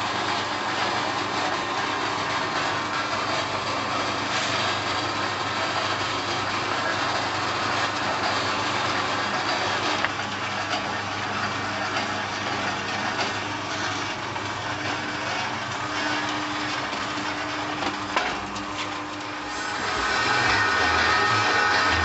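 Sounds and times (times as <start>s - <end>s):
dough-sheeting machine running: 0.0s - 22.0s.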